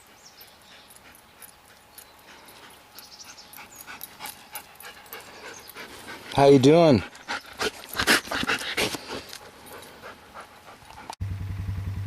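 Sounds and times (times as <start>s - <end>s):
dog breathing quickly: 0.0s - 11.2s.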